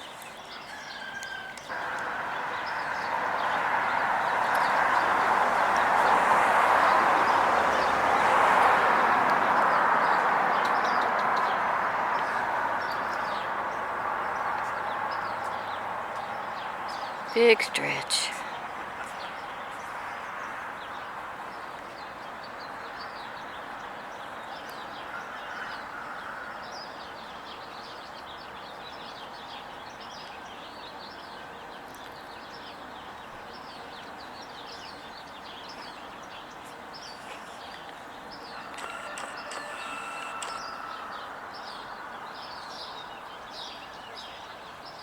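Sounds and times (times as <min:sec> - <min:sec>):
small birds chirping: 0:00.0 - 0:25.3, 0:26.8 - 0:45.0.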